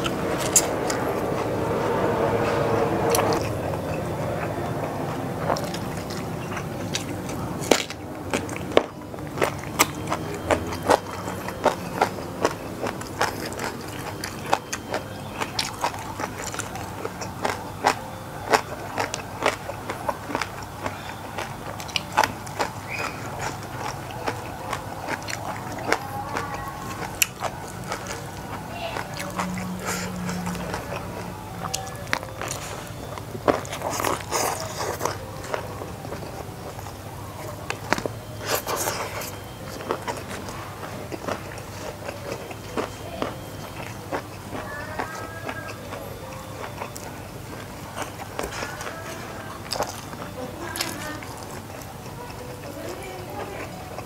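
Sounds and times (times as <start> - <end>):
airplane rumble overhead: 0.0 - 54.0
close chewing and eating: 0.0 - 54.0.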